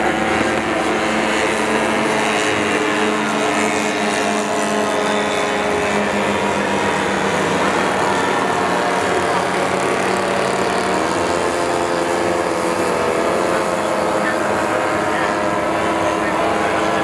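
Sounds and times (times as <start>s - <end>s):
model airplane engines droning: 0.0s - 17.0s.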